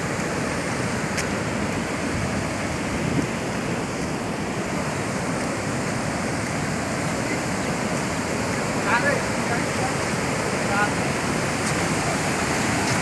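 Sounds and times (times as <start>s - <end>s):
large waterfall rushing: 0.0s - 13.0s.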